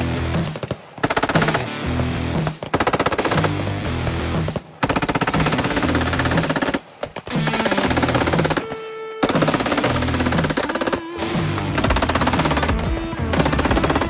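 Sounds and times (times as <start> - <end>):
machine gun firing bursts: 0.5 - 1.7, 2.6 - 3.7, 4.4 - 14.0.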